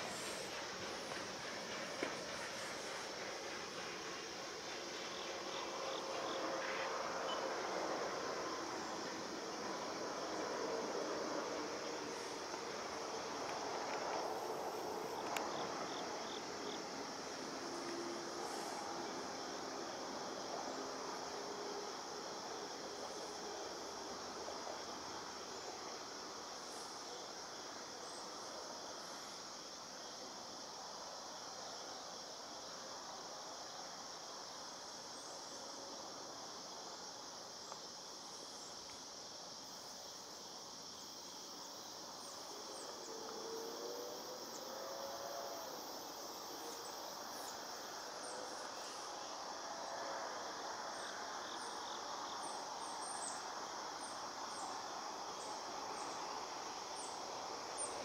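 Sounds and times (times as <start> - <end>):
crickets and insects chorus: 0.0 - 58.0.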